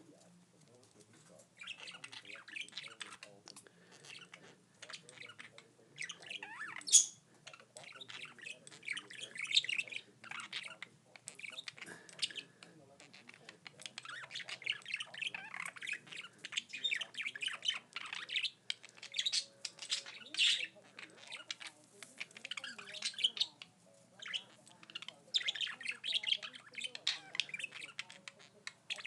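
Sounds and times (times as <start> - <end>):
budgerigar chattering and warbling: 1.6 - 29.0.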